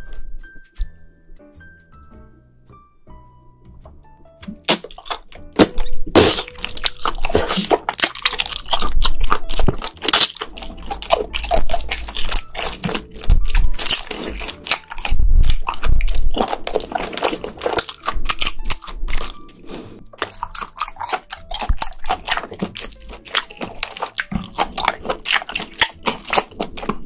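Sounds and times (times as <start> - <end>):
wet clicks and pops: 4.4 - 19.4, 20.1 - 27.0
wet slurping and chewing: 4.4 - 27.0.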